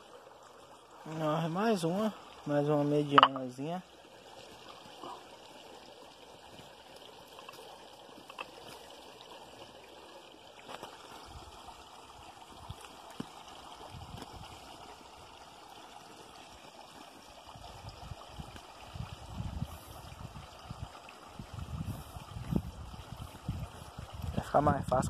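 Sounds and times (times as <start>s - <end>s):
trickle of running water: 0.0s - 25.0s.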